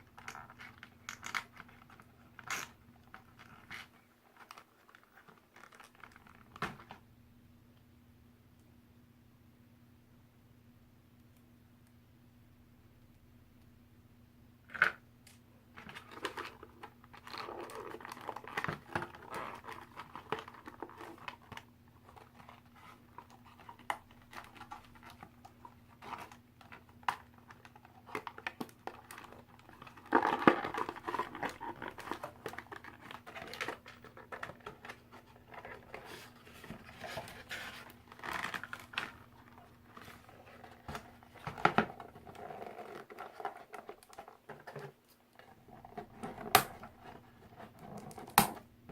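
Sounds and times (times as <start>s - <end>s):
plastic and cardboard crinkling: 0.0s - 7.0s, 15.7s - 48.6s.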